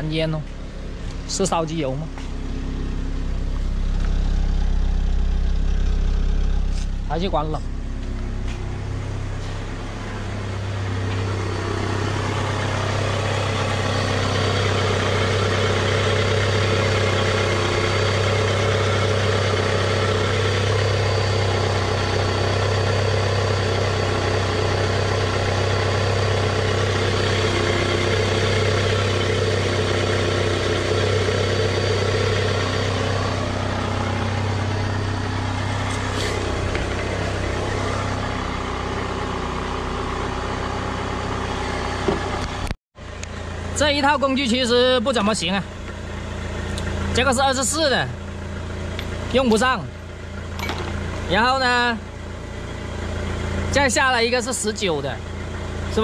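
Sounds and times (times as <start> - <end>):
car engine idling rough: 0.0 - 56.0.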